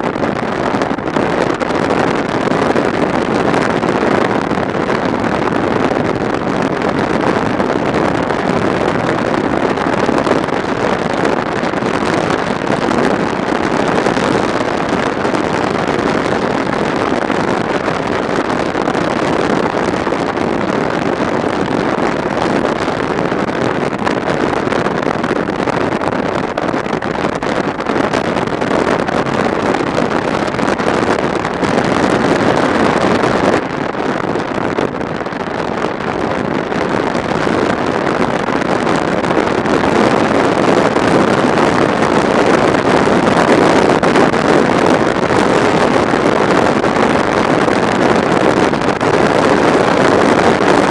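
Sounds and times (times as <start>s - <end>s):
motorcycle road and engine noise: 0.0s - 50.9s
wind rushing over microphone: 0.0s - 50.9s.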